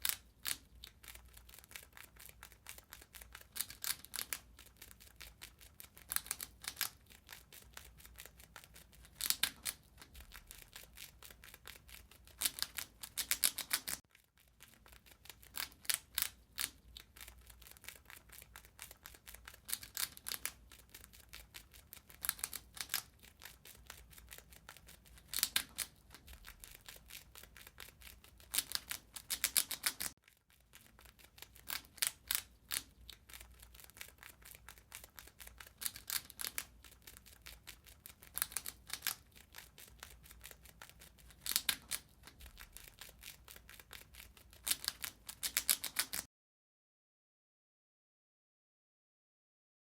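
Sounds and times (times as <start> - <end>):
rat gnawing and crunching: 0.0 - 46.3.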